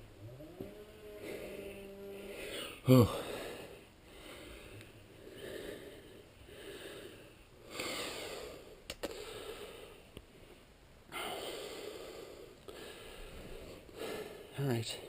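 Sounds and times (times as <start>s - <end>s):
man breathing heavily: 1.0s - 15.0s.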